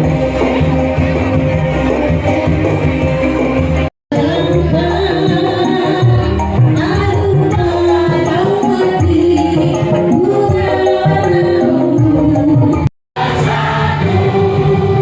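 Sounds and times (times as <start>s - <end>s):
music with singing over beat: 0.0s - 15.0s.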